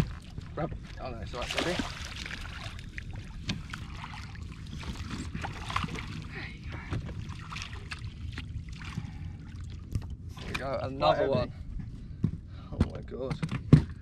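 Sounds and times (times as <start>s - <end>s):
water splashing and sloshing: 0.0s - 11.7s.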